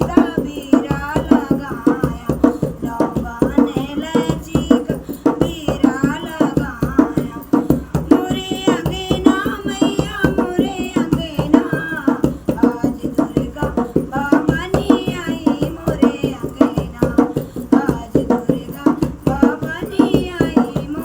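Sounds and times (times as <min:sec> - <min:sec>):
hand drum beat: 0:00.0 - 0:21.0
woman singing devotional folk song: 0:00.0 - 0:21.0.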